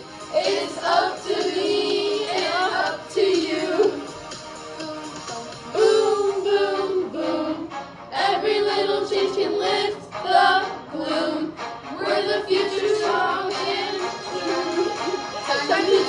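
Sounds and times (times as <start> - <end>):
pop backing track: 0.0 - 16.0
girls singing in unison: 0.3 - 4.2, 4.8 - 16.0.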